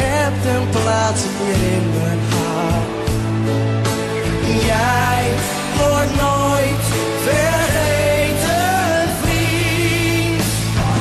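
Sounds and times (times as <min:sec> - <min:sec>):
music with bass and chords: 0:00.0 - 0:11.0.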